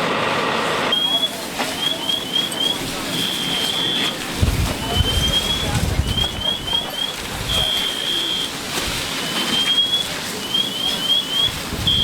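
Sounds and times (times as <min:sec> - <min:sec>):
steady rushing noise: 0:01.4 - 0:12.0.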